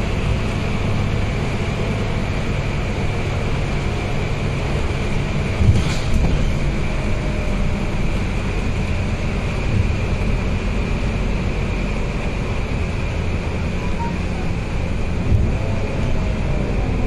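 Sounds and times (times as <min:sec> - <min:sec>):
bus diesel engine drone: 0:00.0 - 0:17.0
road noise: 0:00.0 - 0:17.0
steady high whine: 0:00.0 - 0:17.0.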